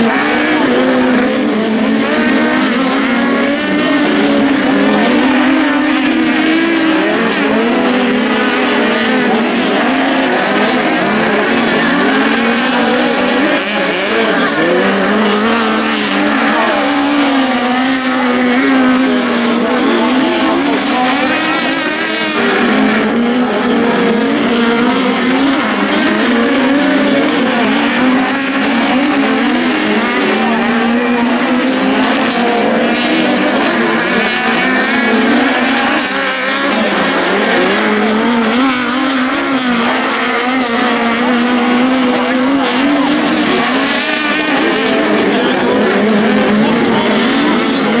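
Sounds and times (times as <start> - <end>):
racing buggy engines revving: 0.0 - 48.0.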